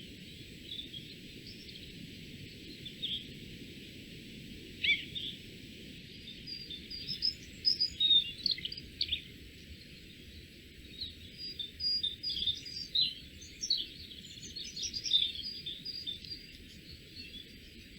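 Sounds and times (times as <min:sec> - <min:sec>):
small songbirds chirping: 0:00.0 - 0:17.9.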